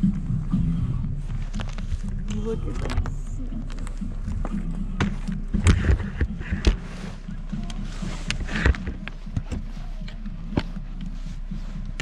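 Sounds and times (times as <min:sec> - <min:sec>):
radio playing music: 0:00.0 - 0:12.0
snow brush knocking and scraping: 0:01.2 - 0:12.0.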